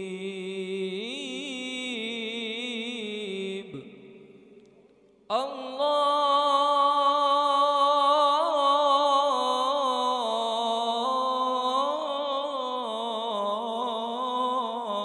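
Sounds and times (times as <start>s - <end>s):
man singing unaccompanied: 0.0s - 4.1s, 5.3s - 15.0s.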